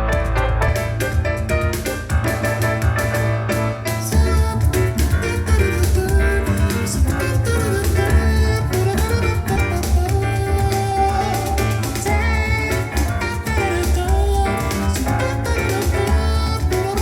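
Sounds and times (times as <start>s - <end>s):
heavy bass beat with drums: 0.0s - 17.0s
music through speaker: 0.0s - 17.0s.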